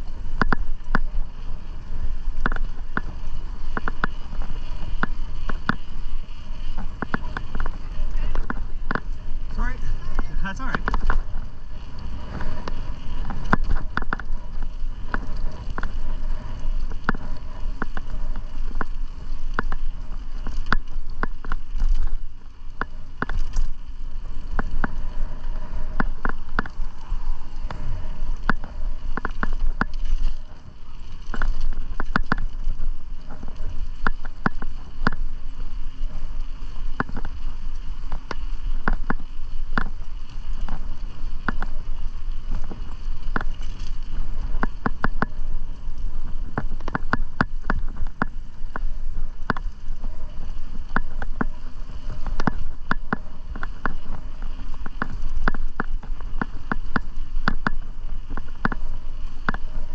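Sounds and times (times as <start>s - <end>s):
bicycle clicks and rattles: 0.0s - 59.9s
wind rumbling on microphone: 0.0s - 59.9s.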